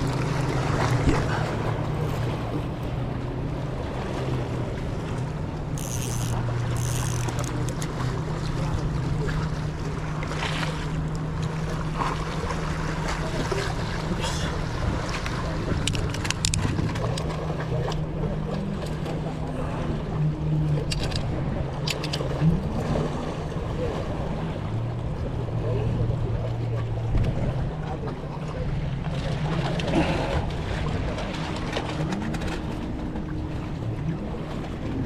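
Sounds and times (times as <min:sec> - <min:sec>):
low engine drone: 0:00.0 - 0:35.0.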